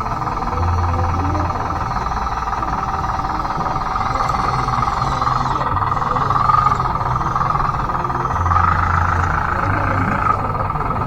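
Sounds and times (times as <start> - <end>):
electric motors whining: 0.0 - 11.0.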